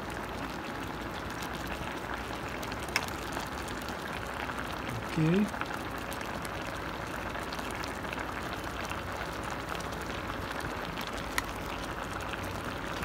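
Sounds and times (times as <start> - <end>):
sauce bubbling in a pot: 0.0 - 13.0.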